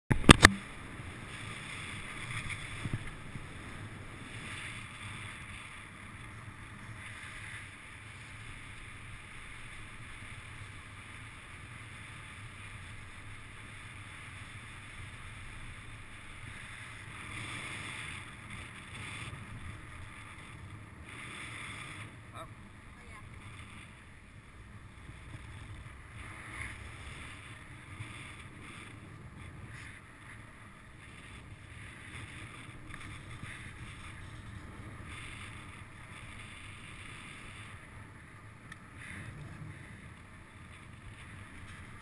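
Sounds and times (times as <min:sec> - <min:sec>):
wind rush on microphone: 0:00.1 - 0:42.0.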